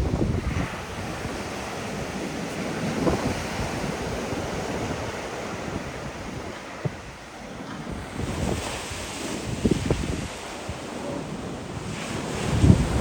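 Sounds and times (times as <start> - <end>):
sea waves washing onto shore: 0.0 - 13.0
wind buffeting microphone: 0.0 - 13.0.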